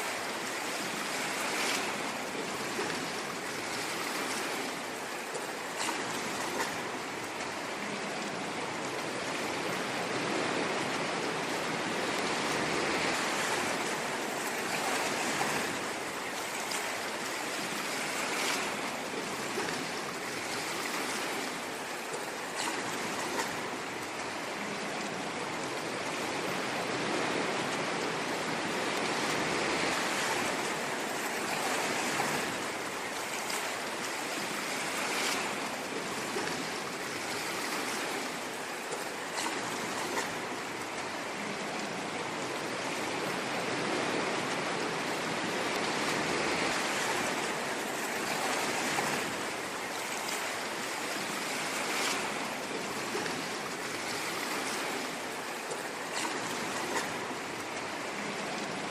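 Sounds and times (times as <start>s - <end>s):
ocean waves washing: 0.0s - 58.9s
small water splashes: 0.0s - 58.9s.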